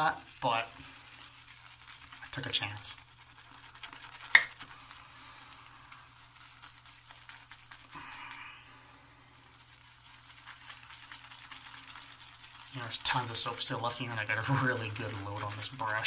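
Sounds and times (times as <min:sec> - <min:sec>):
shaving brush swishing lather: 0:00.0 - 0:16.0.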